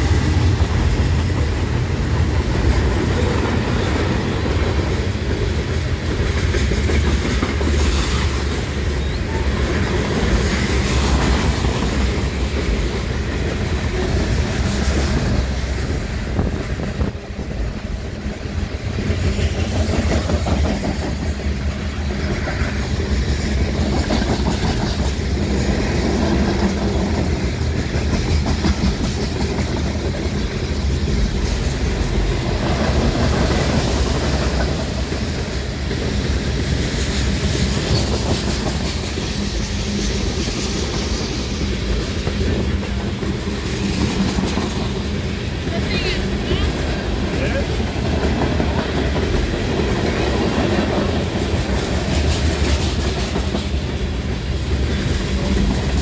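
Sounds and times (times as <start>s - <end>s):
diesel locomotive passing: 0.0s - 56.0s
train wheels rumbling on rails: 0.0s - 56.0s.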